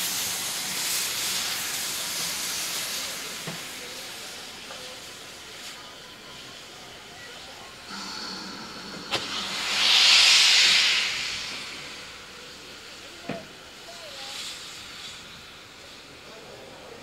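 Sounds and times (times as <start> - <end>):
steam hissing: 0.0 - 17.0.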